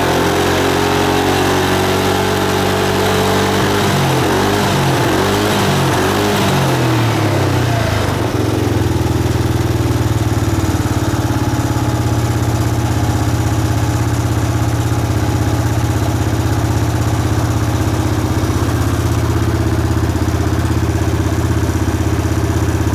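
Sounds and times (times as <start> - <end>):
scooter engine revving and idling: 0.0 - 22.9.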